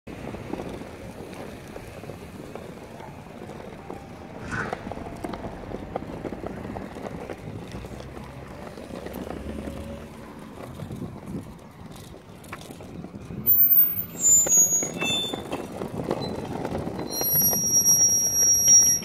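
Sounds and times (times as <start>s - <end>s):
plastic wheels rolling on asphalt: 0.1s - 19.0s.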